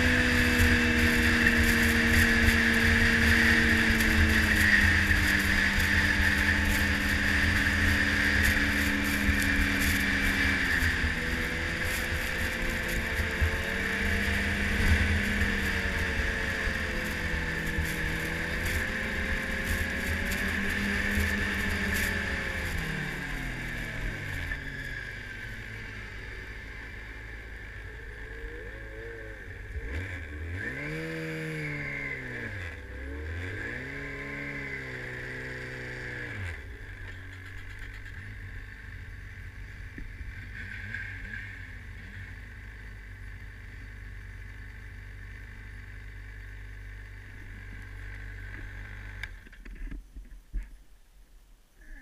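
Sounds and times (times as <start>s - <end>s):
snowmobile engine running: 0.0s - 50.0s.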